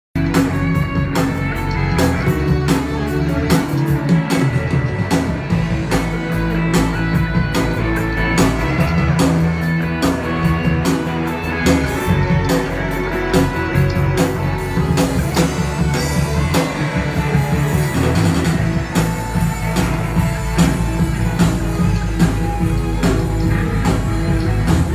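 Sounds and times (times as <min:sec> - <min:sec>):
live rock band playing: 0:00.2 - 0:24.9.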